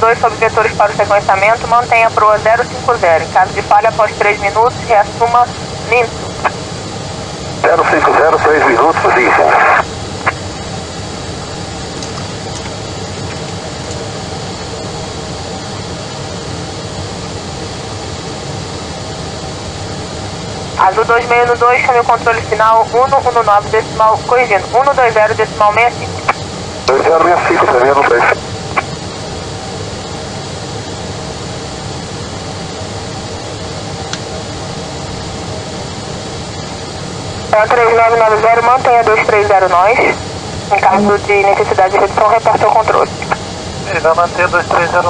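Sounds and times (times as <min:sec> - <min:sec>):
jet engines rushing: 0:00.0 - 0:45.0.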